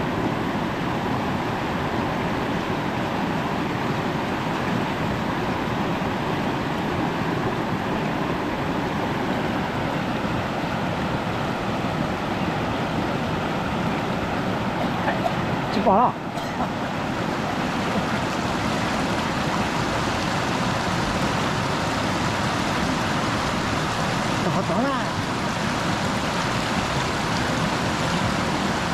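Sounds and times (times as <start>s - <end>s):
water rushing over rocks: 0.0s - 28.9s.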